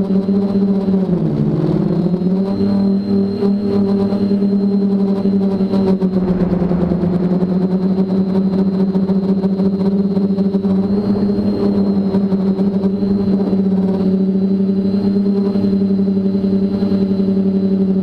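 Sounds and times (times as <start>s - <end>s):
quadcopter motors humming: 0.0s - 18.0s.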